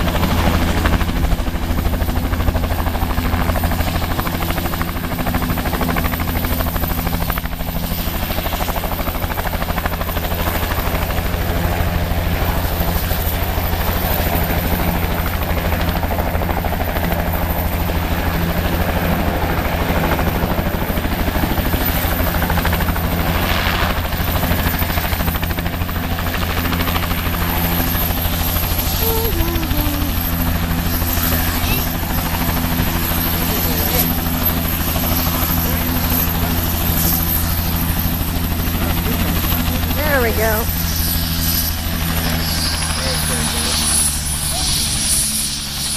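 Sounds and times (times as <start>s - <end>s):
helicopter rotor and engine: 0.0s - 45.9s.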